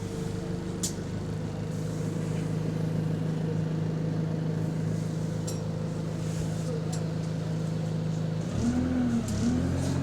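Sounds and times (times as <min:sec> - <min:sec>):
bus engine droning: 0:00.0 - 0:10.0.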